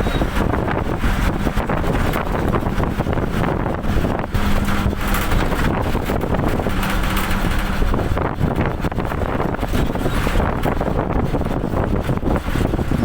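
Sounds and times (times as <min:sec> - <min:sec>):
engine running: 0:00.0 - 0:13.0
wind buffeting the microphone: 0:00.0 - 0:13.0.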